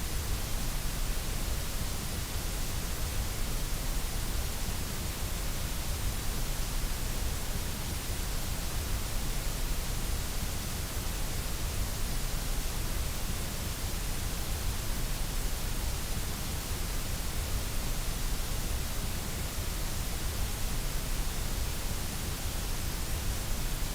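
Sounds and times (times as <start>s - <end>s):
white noise hiss: 0.0s - 23.9s.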